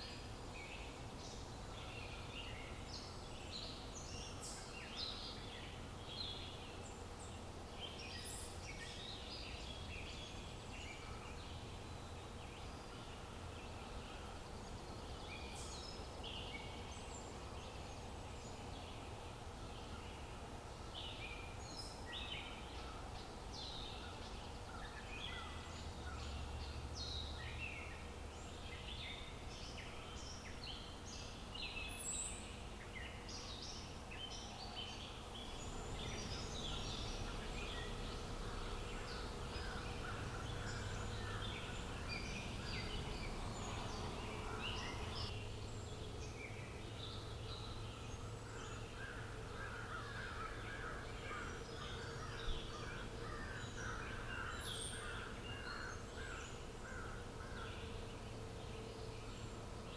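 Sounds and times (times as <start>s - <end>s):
outdoor background noise: 0.0s - 59.9s
small birds chirping and singing: 0.0s - 59.9s.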